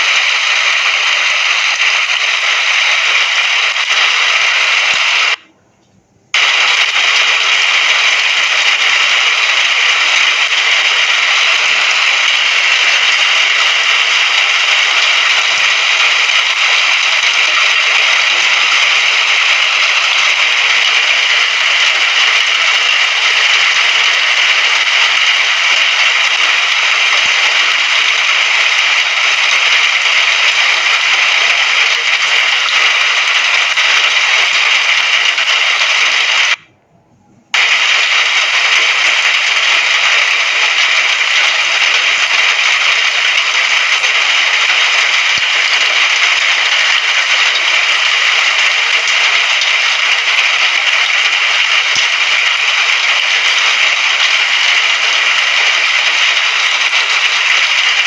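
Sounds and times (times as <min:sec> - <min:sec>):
rain hissing: 0:00.0 - 0:05.4, 0:06.3 - 0:36.6, 0:37.5 - 0:58.0.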